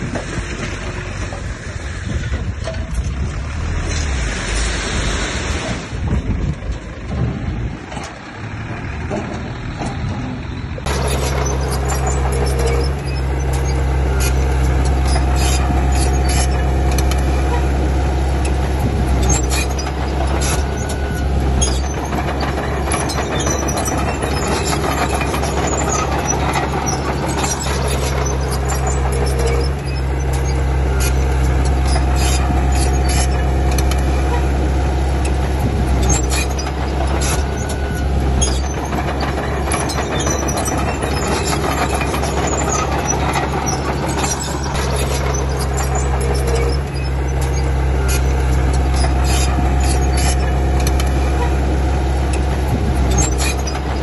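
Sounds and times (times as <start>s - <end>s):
bulldozer diesel engine running: 0.0s - 54.0s
metallic track clanks: 0.0s - 54.0s
track squeaks: 0.0s - 54.0s.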